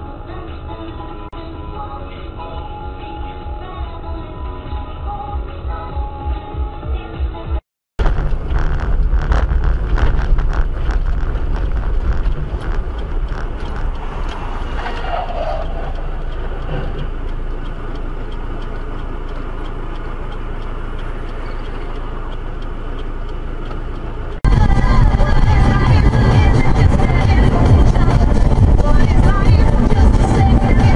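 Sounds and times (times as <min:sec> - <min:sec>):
vehicle engine and road rumble: 0:00.0 - 0:30.9.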